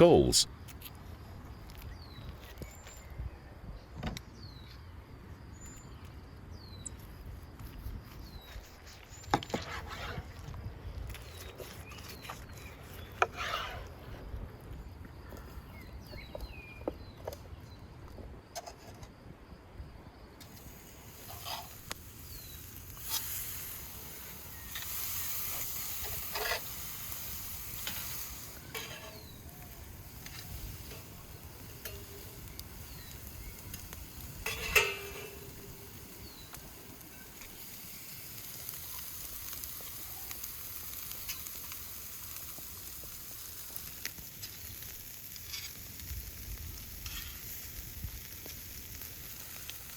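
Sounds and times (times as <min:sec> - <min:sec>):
meat sizzling on coals: 0:05.4 - 0:17.2, 0:20.4 - 0:49.9.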